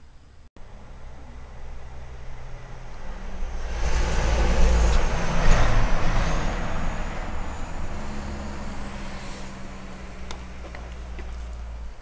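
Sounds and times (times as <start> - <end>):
truck passing: 0.6 - 12.0.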